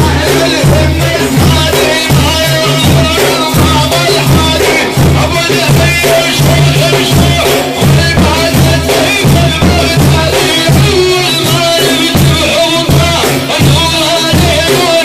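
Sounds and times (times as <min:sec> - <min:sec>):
frame drums beating: 0:00.0 - 0:15.0.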